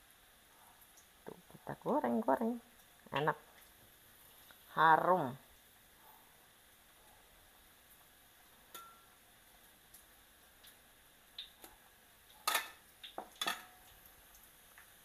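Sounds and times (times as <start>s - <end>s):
oil sizzling with pops: 0.0s - 15.0s.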